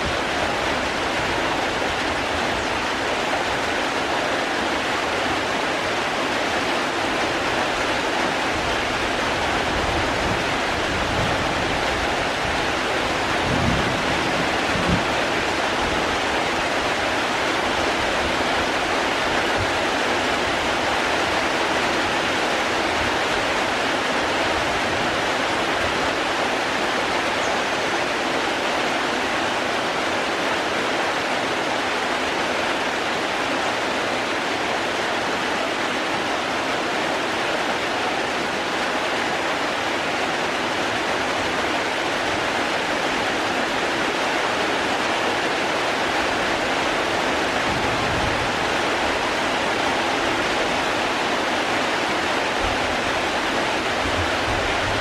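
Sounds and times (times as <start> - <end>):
rush of falling water: 0.0 - 55.0.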